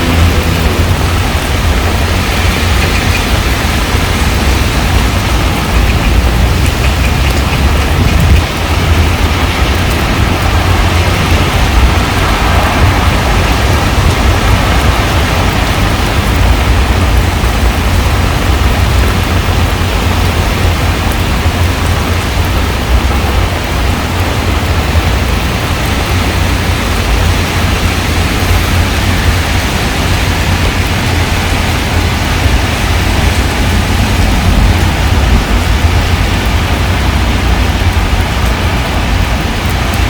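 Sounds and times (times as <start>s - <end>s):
deep low rumble: 0.0s - 40.0s
heavy rain on pond water: 0.0s - 40.0s.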